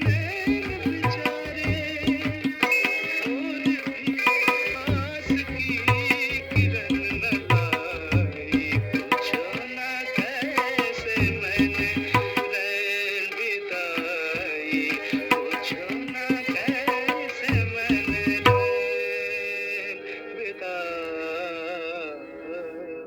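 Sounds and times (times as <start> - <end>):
tabla playing: 0.0 - 13.2, 13.8 - 19.7
recorded film song: 0.0 - 23.0.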